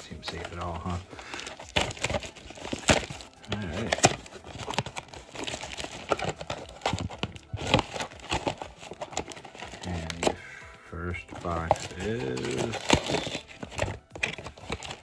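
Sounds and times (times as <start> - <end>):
plastic wrapping crinkling: 0.0 - 10.4, 11.2 - 15.0.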